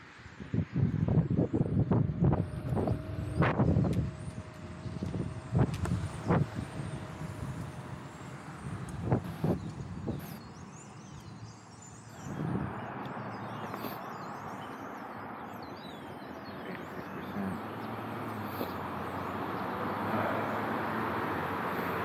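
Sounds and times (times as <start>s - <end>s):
cars passing: 0.0s - 22.0s
birds chirping faintly: 1.4s - 22.0s.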